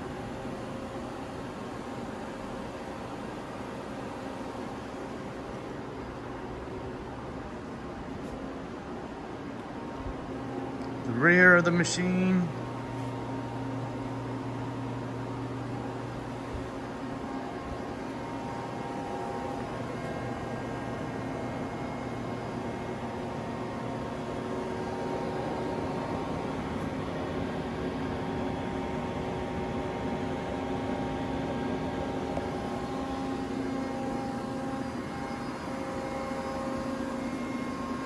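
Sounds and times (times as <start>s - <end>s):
lathe humming and whirring: 0.0s - 38.0s.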